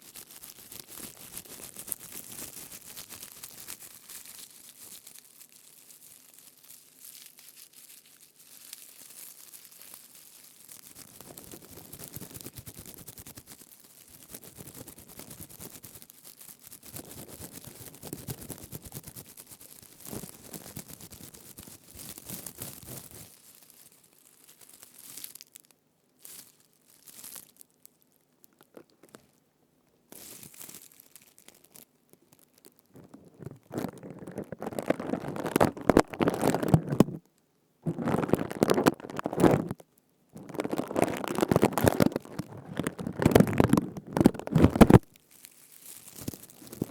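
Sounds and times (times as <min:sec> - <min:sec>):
leaves rustling and crackling: 0:00.0 - 0:25.6, 0:26.2 - 0:27.6, 0:30.2 - 0:37.2, 0:37.8 - 0:39.8, 0:40.4 - 0:46.9.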